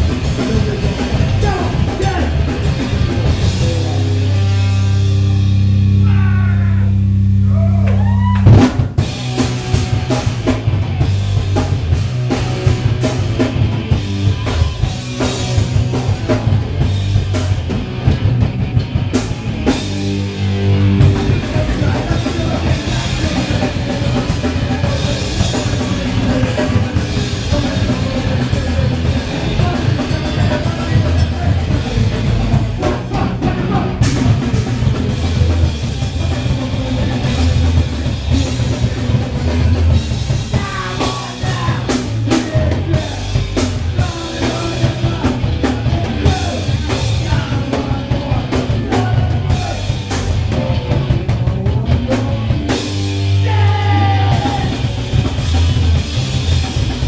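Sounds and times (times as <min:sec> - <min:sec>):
fast drumming: 0:00.0 - 0:06.3, 0:07.9 - 0:57.0
punk band playing loud: 0:00.0 - 0:57.0.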